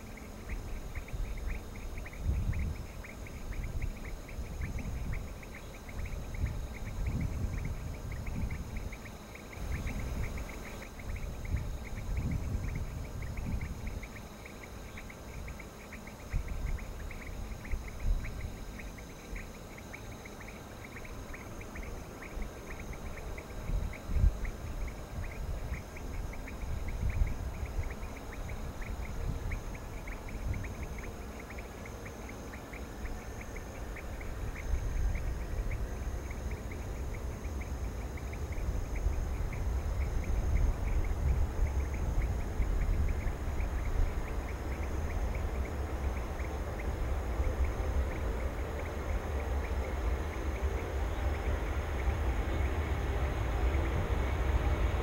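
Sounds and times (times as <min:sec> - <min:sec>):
distant jet engine rumble: 0:00.0 - 0:55.0
insects chirping and buzzing: 0:00.0 - 0:55.0.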